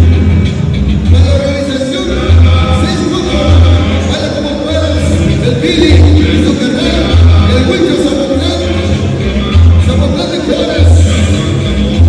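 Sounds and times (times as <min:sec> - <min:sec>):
loud latin dance music: 0:00.0 - 0:12.0.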